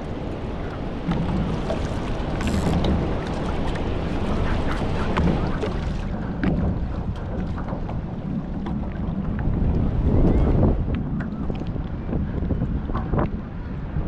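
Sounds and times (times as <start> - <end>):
water rushing along hull: 0.0 - 14.0
wind buffeting microphone: 0.0 - 14.0.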